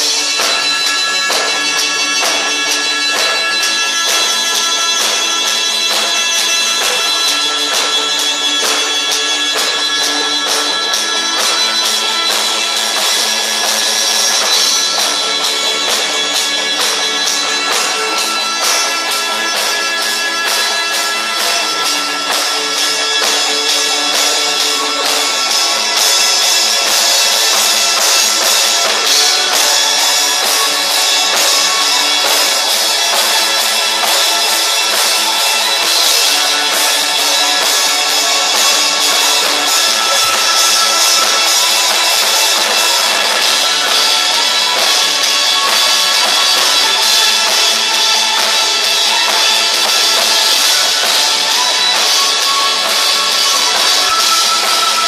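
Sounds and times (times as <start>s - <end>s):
electric guitars: 0.0s - 55.0s
keyboard: 0.0s - 55.0s
steady drum beat: 0.0s - 55.0s.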